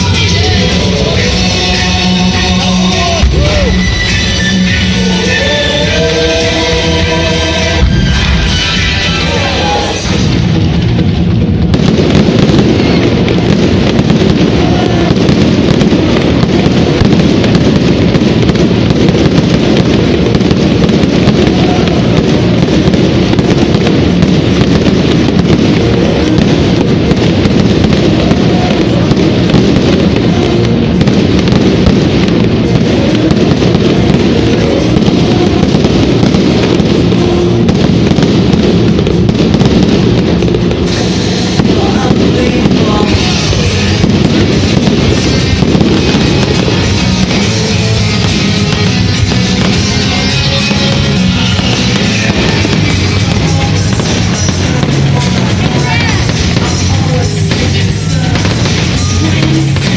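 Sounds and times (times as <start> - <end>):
fireworks booming and crackling: 0.0 - 59.9
loud music playing: 0.0 - 59.9.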